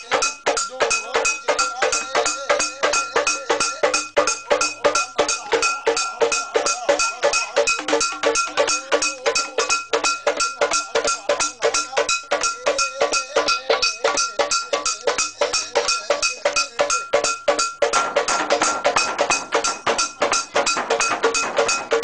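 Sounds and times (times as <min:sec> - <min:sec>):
ringing percussion strikes: 0:00.0 - 0:22.0.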